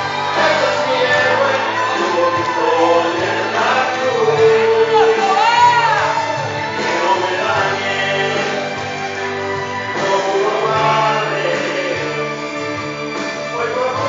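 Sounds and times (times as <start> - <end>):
two men singing praise song: 0.0 - 14.0.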